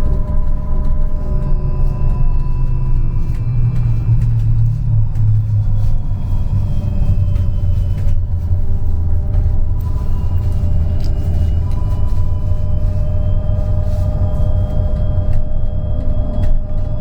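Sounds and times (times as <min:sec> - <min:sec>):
low rumble of running gear: 0:00.0 - 0:17.0.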